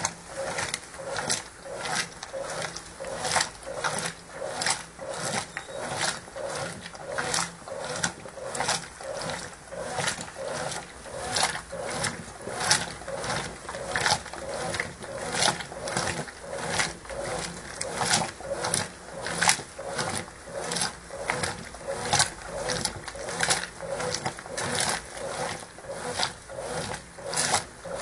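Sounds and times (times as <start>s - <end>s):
washing machine sloshing water: 0.0s - 28.0s.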